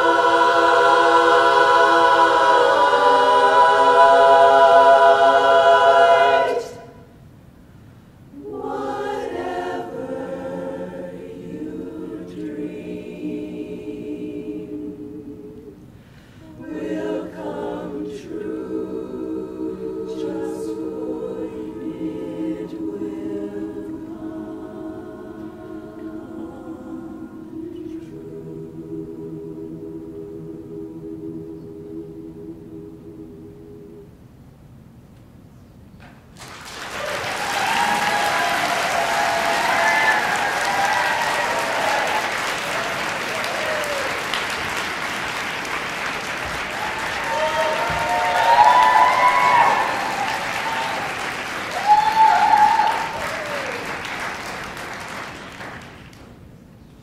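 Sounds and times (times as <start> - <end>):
women's chorus singing in harmony: 0.0 - 7.1, 8.3 - 34.3, 37.0 - 55.8.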